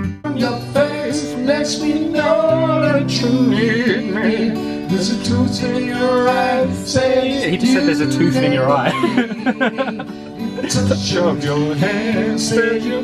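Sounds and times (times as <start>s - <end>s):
acoustic guitar chords: 0.0s - 13.0s
person singing: 0.0s - 13.0s.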